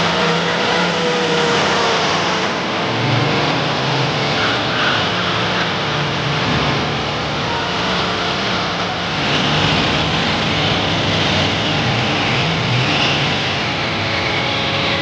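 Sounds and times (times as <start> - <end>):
dense mechanical noise: 0.0 - 15.0.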